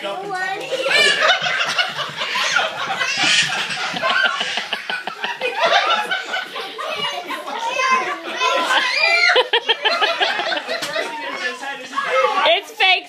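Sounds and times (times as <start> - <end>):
people laughing hard: 0.7 - 12.4.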